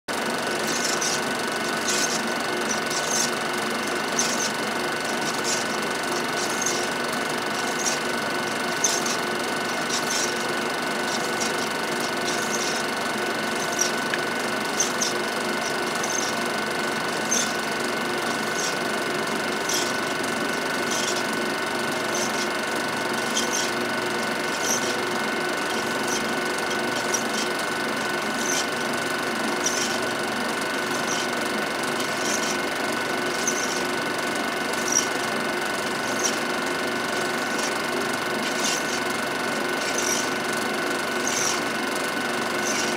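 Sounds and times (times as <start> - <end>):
film projector whirring: 0.1 - 42.9.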